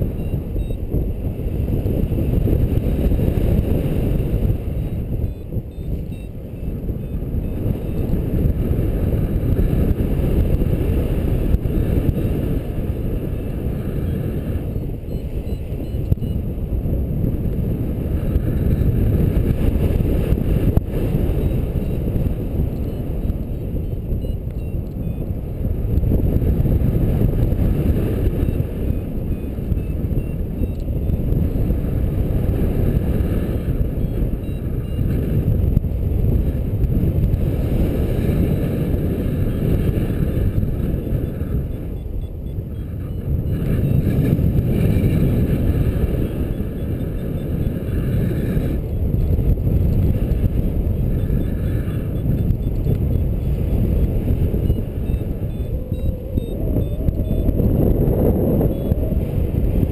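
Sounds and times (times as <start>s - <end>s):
wind rumbling over microphone: 0.0s - 59.9s.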